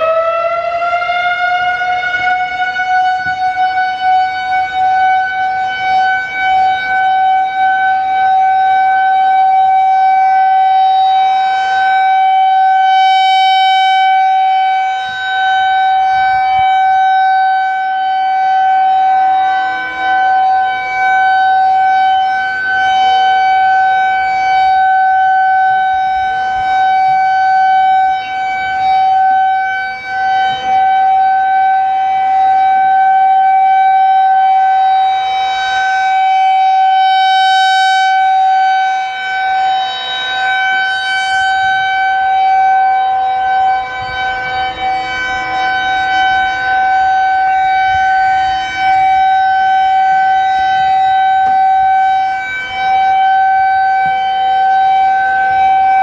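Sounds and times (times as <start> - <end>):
rotating warning siren: 0.0 - 56.0.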